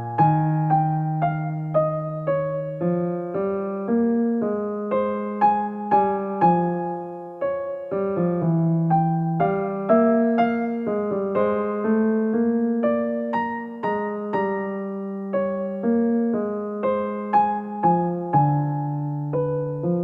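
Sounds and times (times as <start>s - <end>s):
gentle electric piano melody: 0.0s - 20.0s.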